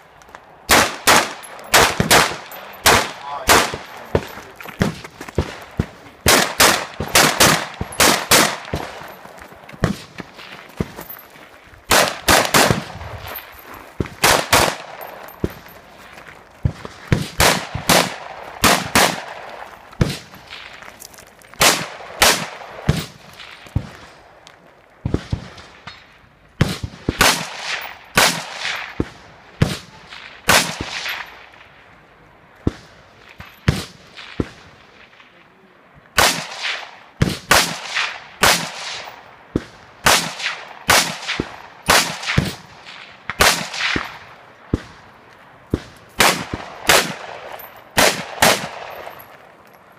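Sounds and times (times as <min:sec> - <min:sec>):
rifle shots with echo: 0:00.7 - 0:11.1, 0:11.9 - 0:15.8, 0:16.6 - 0:20.9, 0:21.6 - 0:24.4, 0:25.0 - 0:31.9, 0:36.2 - 0:49.4.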